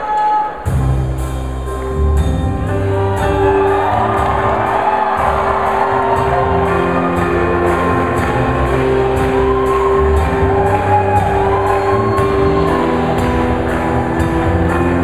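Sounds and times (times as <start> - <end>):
bass line: 0.7 - 15.0
steady drum beat: 0.7 - 15.0.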